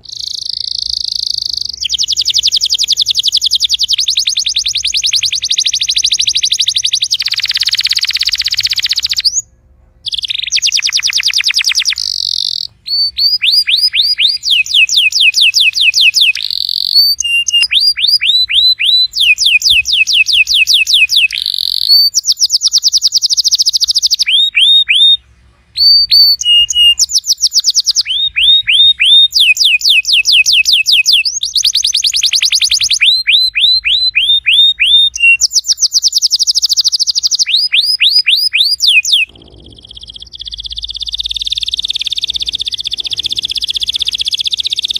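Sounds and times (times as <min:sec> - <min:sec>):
canary singing fast trills: 0:00.0 - 0:44.9.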